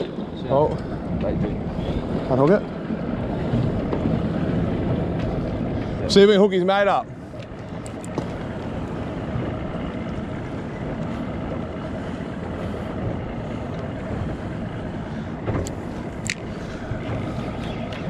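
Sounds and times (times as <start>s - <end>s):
boat rumbling: 0.0s - 18.0s.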